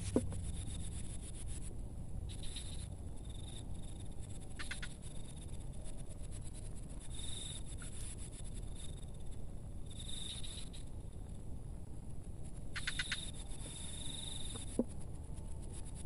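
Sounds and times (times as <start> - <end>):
insects chirping in pulsed trills: 0.0 - 16.0
low outdoor rumble: 0.0 - 16.0.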